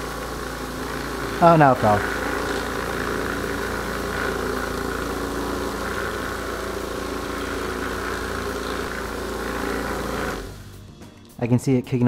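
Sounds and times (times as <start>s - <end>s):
casings churning in bowl: 0.0s - 10.6s
case tumbler motor humming: 0.0s - 10.8s.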